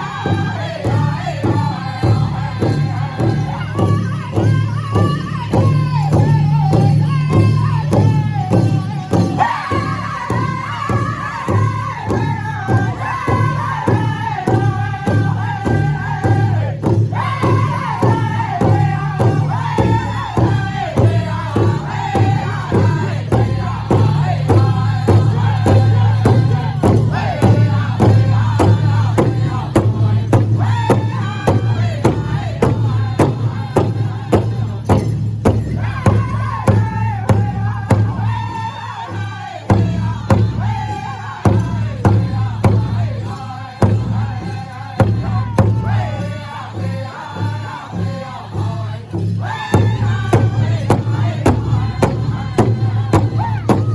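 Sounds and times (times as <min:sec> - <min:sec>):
crowd singing together: 0:00.0 - 0:53.9.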